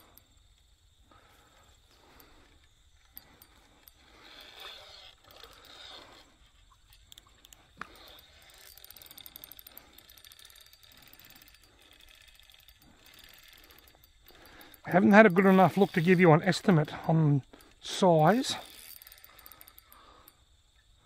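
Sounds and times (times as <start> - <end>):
fishing reel ticking: 0.0 - 21.0.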